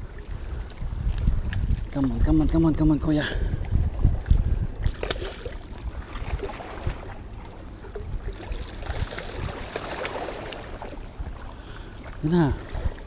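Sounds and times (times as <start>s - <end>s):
water lapping: 0.0s - 13.0s.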